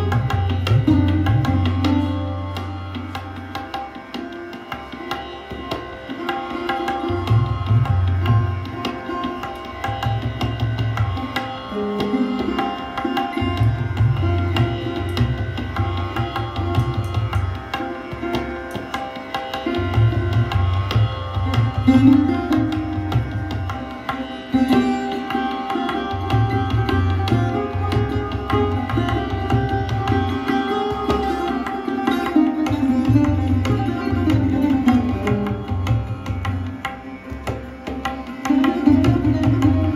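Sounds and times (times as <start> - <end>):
sarod plucked melody: 0.0 - 39.9.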